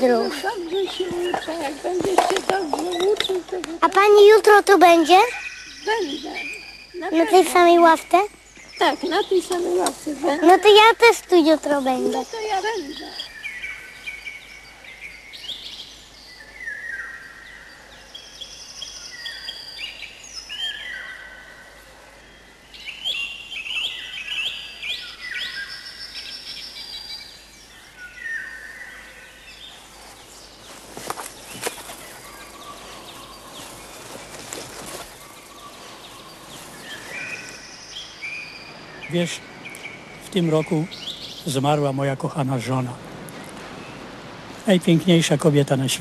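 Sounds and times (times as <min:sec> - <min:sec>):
songbirds singing and calling: 0:00.0 - 0:46.0.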